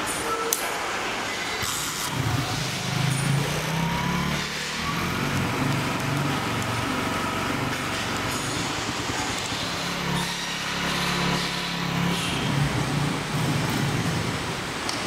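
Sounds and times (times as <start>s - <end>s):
motorcycle engine starting and idling: 1.6s - 15.0s.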